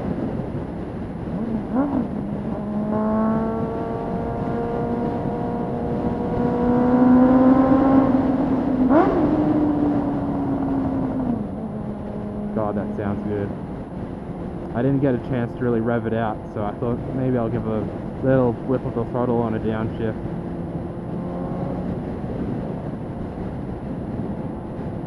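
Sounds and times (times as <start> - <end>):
motorcycle engine in tunnel: 0.0 - 25.0.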